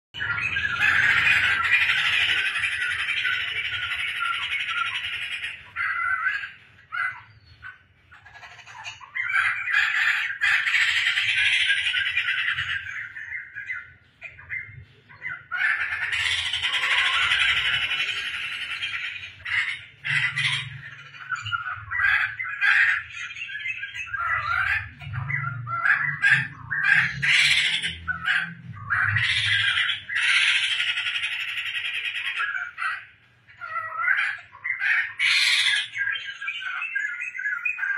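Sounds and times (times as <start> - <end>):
laughingthrush chattering song: 0.2 - 37.9.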